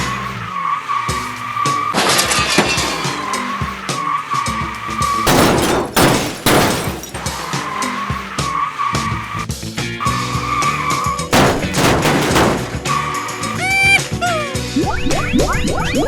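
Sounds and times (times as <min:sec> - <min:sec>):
high toy-vehicle whine: 0:00.0 - 0:16.0.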